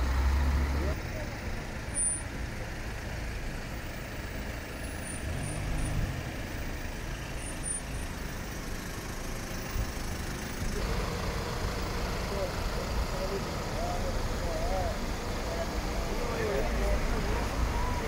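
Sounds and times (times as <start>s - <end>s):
road noise rumble: 0.0s - 18.0s
vehicle engine hum: 0.0s - 18.0s.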